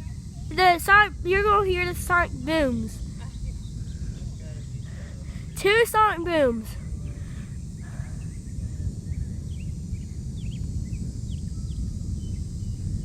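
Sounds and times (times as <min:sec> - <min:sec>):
distant rocket launch rumble: 0:00.0 - 0:13.0
small birds chirping: 0:00.0 - 0:13.0.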